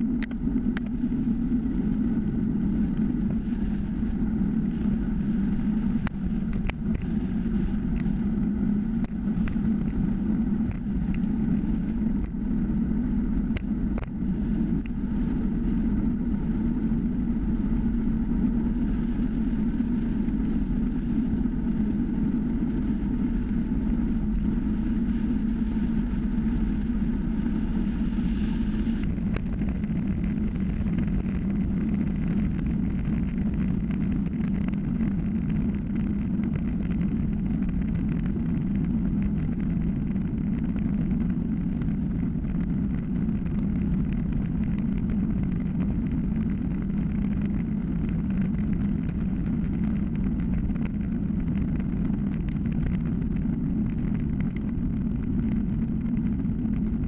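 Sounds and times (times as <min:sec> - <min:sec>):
faint high whine: 0:00.0 - 0:57.0
wind and tyre road noise: 0:00.0 - 0:57.0.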